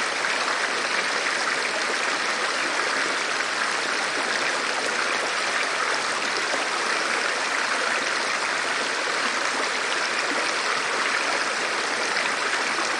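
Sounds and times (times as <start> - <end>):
stream water flowing over rocks: 0.0 - 12.9.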